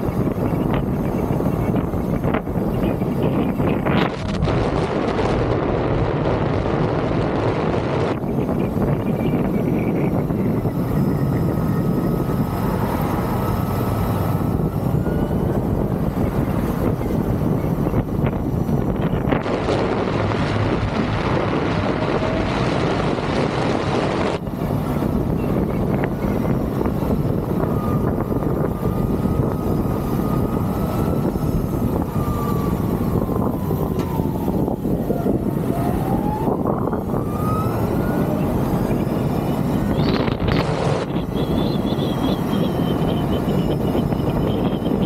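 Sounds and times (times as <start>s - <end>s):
road noise: 0.0s - 45.0s
wind rush on microphone: 0.0s - 45.0s.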